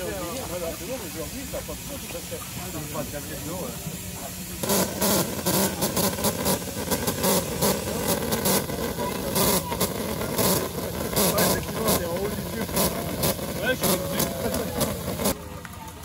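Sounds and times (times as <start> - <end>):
sharp hissing bursts: 0.0 - 15.4
miniature train engine rumble: 0.0 - 16.0.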